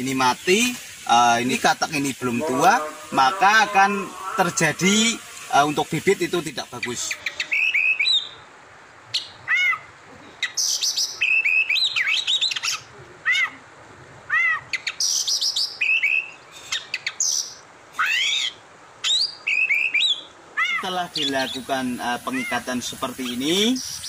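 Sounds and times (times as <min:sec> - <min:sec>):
harsh rasping bird calls: 0:00.0 - 0:08.4, 0:09.1 - 0:13.6, 0:14.3 - 0:24.0
birds chirping: 0:00.0 - 0:13.6, 0:14.4 - 0:24.0.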